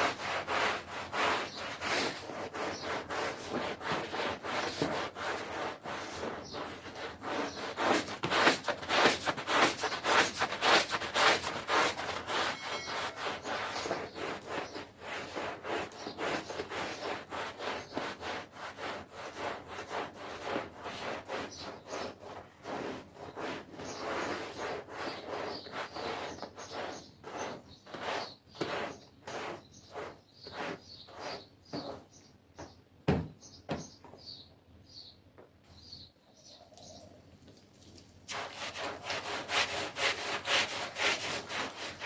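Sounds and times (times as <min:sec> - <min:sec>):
scrubbing on carpet: 0:00.0 - 0:32.0, 0:38.3 - 0:42.0.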